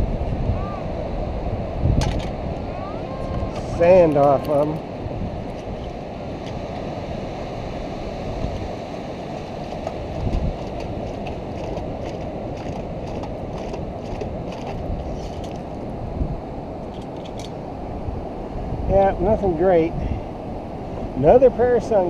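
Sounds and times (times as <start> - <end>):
ocean surf washing: 0.0 - 22.0.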